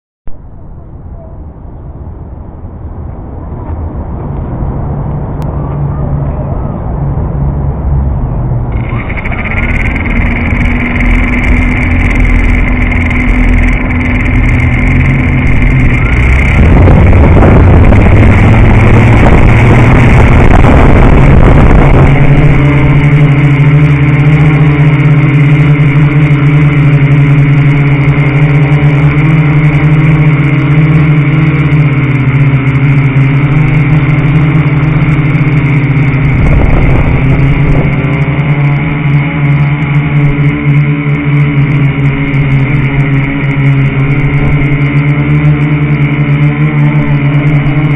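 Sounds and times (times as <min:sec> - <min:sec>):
loud rushing noise: 0:00.3 - 0:47.9
quadcopter propellers buzzing: 0:08.3 - 0:47.9.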